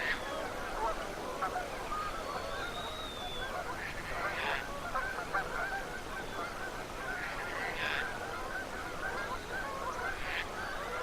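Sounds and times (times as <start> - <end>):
flock of geese honking: 0.0 - 11.0.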